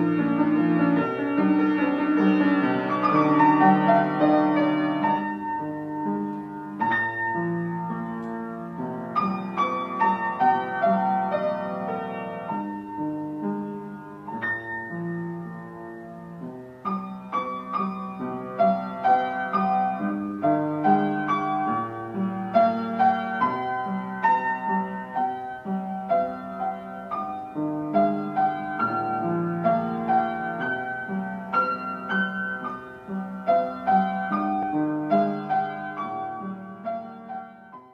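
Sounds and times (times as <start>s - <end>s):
gentle piano music: 0.0s - 37.9s.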